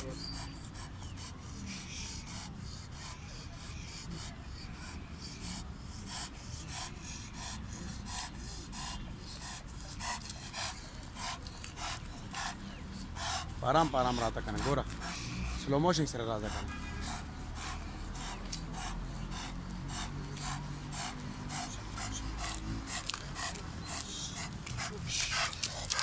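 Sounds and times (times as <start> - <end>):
dog panting: 0.0 - 26.0.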